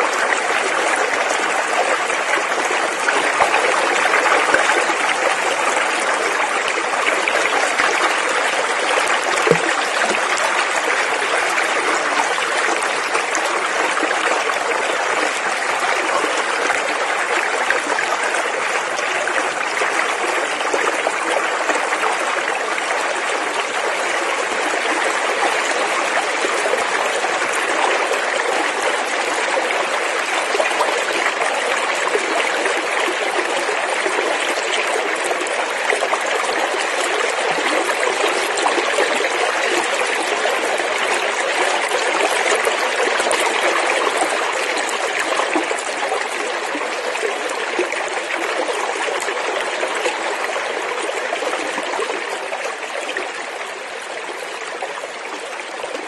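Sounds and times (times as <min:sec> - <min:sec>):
creek water running over rocks: 0:00.0 - 0:56.0.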